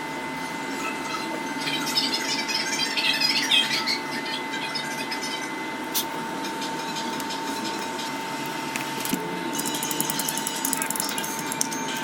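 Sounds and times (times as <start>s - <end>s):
steady high hum: 0.0s - 12.0s.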